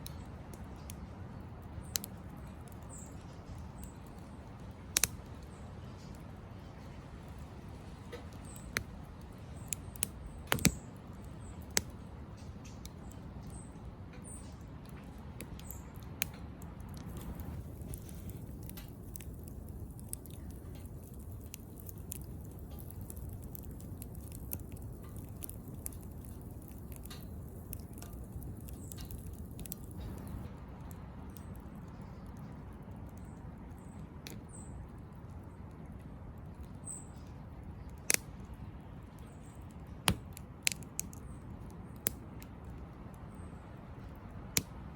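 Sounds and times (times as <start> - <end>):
fire crackling and popping: 0.0 - 44.9
low rumble of fire: 0.0 - 44.9.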